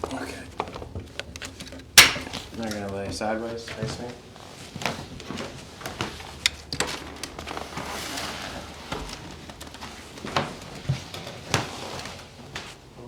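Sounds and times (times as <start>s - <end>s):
rustling and shuffling: 0.4s - 13.0s.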